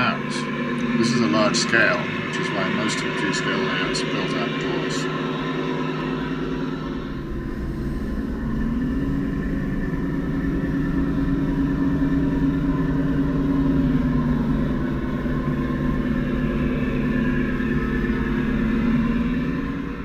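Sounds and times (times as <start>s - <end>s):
model train motor and gear whine: 0.0s - 20.0s.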